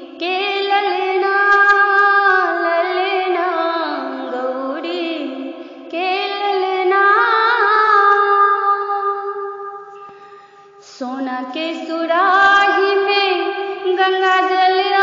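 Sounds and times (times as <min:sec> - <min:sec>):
woman singing devotional song: 0:00.0 - 0:15.0.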